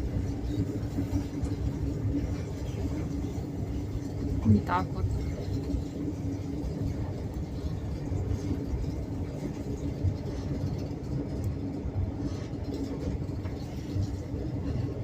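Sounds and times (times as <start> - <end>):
faint constant hum: 0.0 - 15.0
train wheels rumbling on rails: 0.0 - 15.0.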